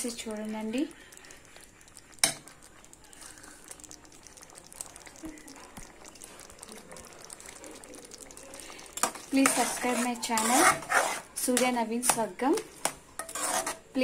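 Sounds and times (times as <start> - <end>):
curry simmering: 0.0 - 14.0.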